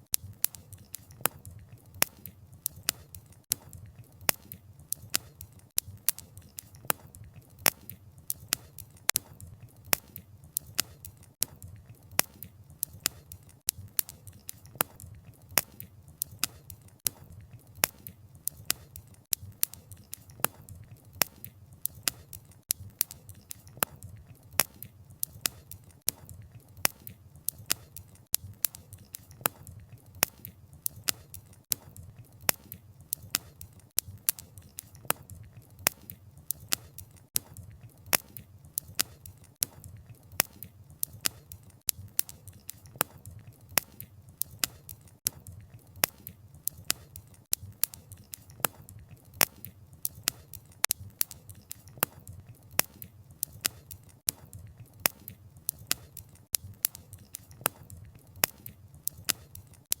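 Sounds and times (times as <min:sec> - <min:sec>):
wood fire crackling: 0:00.1 - 1:00.0.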